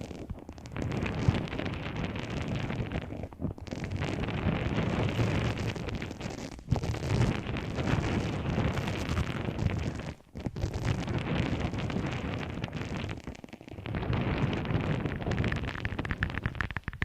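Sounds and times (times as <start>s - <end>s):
crackling and rustling objects: 0.0s - 17.0s.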